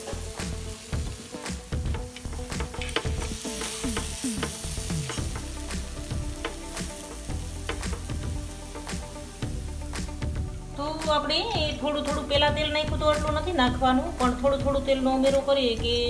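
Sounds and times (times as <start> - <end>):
batter sizzling in oil: 0.0 - 15.8.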